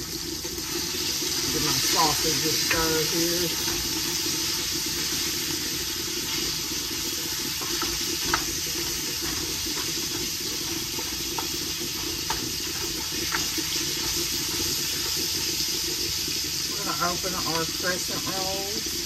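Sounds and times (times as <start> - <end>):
sausage sizzling in a frying pan: 0.0 - 19.0.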